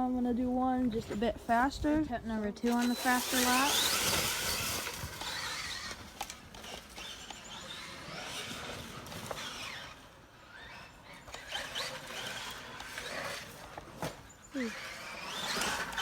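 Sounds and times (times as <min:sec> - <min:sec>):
rc truck motor whine: 0:02.7 - 0:16.0.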